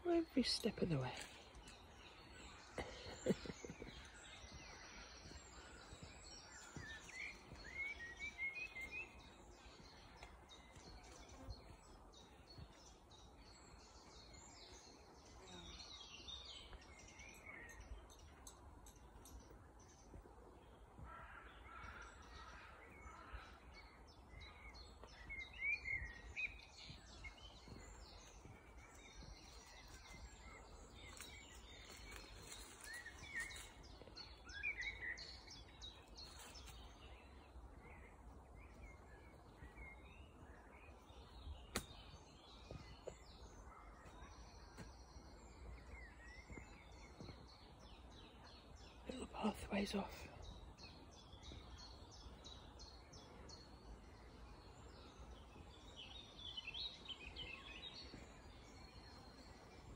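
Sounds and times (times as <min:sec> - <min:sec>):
birds chirping and warbling: 0:00.0 - 0:59.9.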